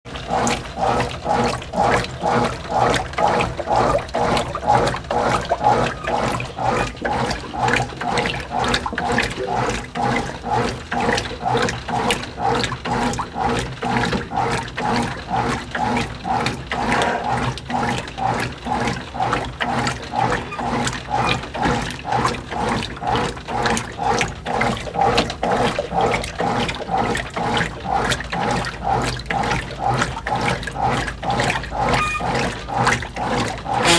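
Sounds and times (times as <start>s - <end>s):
agitator swishing water: 0.1s - 33.9s
washing machine motor humming: 0.1s - 33.9s.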